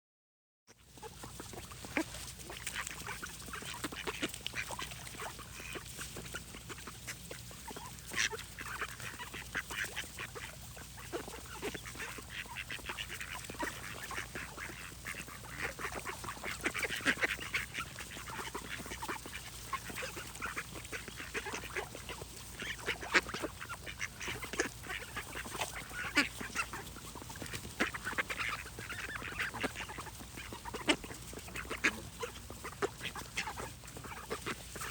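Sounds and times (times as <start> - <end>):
ducks quacking: 0.7 - 34.9.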